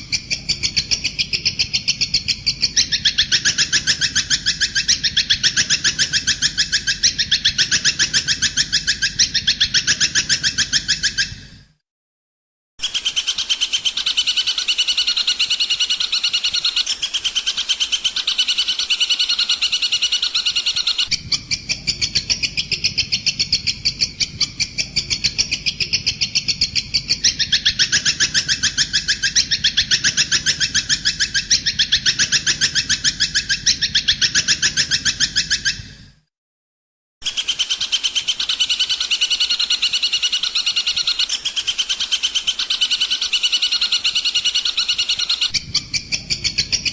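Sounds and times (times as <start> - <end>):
songbird high chirping: 0.0 - 11.6, 12.8 - 36.1, 37.2 - 46.9.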